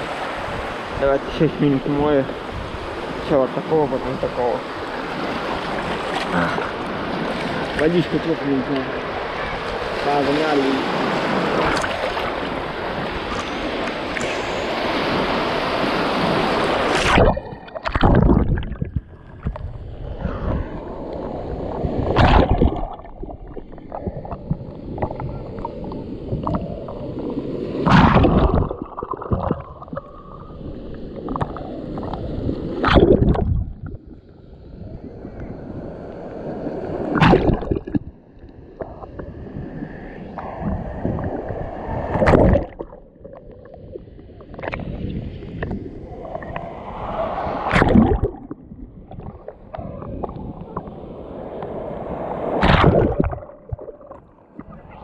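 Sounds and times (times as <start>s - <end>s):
sea waves splashing: 0.0s - 55.0s
underwater gurgling and sloshing: 0.0s - 55.0s.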